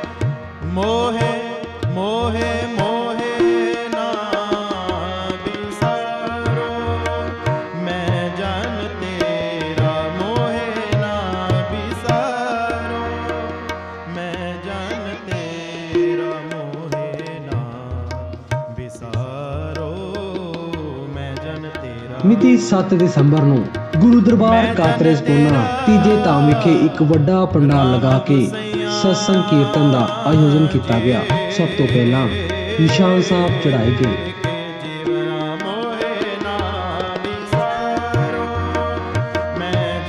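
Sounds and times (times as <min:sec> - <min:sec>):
tabla drumming: 0:00.0 - 0:40.0.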